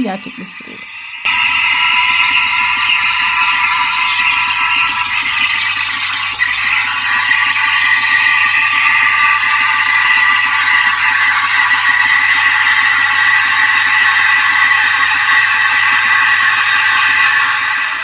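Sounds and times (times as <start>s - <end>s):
steam wand frothing milk: 0.0s - 18.0s.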